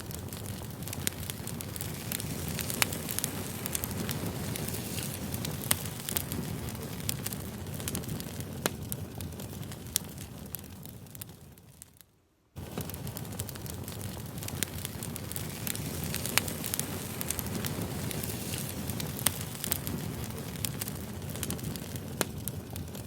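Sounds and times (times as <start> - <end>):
burning wood popping and crackling: 0.0 - 23.0
low rush of flames: 0.0 - 23.0.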